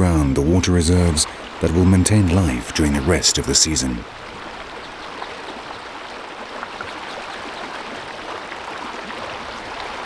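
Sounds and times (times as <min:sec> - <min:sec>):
rush of flowing water: 0:00.0 - 0:10.0.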